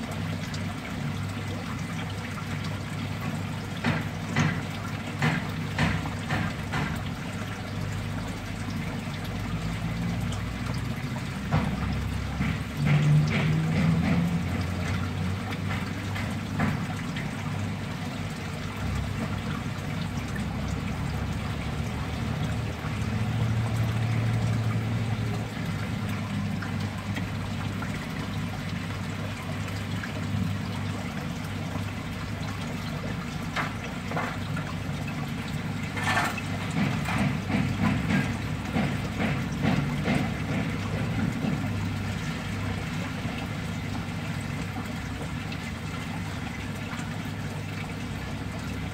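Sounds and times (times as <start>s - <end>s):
running water trickling: 0.0s - 48.9s.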